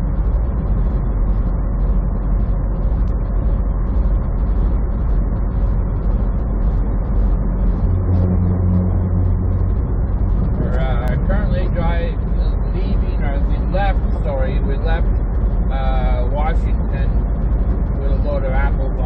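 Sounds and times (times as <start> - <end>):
diesel engine drone: 0.0 - 19.0
road noise: 0.0 - 19.0.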